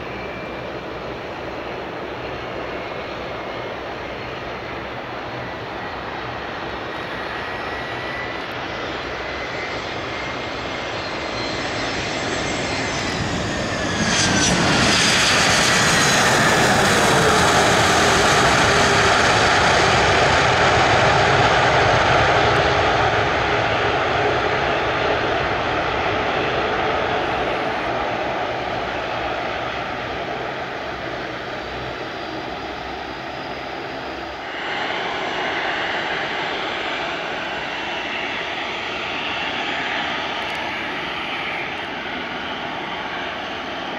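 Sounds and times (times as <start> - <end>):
jet engine approach whine: 0.0 - 43.9
jet engines roaring: 0.0 - 43.9.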